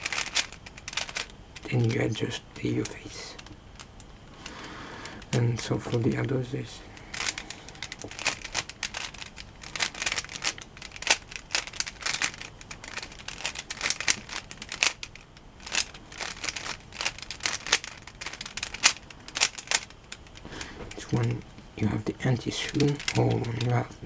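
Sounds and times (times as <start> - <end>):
puzzle cube clicking: 0.0 - 1.9, 2.8 - 5.4, 7.0 - 21.5, 22.6 - 23.8.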